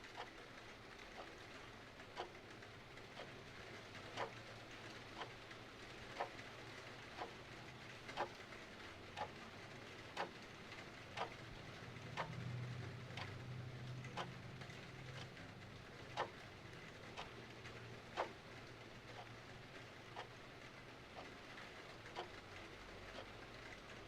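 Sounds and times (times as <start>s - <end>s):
clock ticking: 0.1s - 0.4s, 1.1s - 1.3s, 2.0s - 8.5s, 9.1s - 24.0s.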